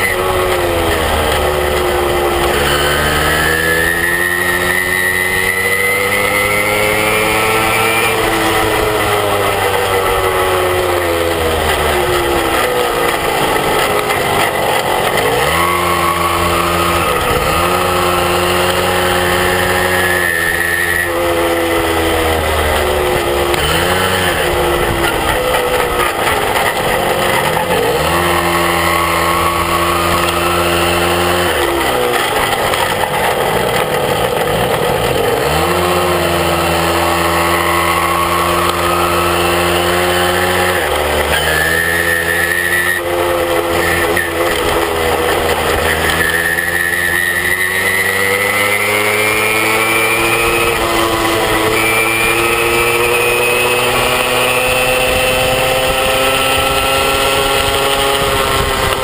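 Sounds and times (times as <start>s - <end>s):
moped engine accelerating: 0.0s - 59.0s.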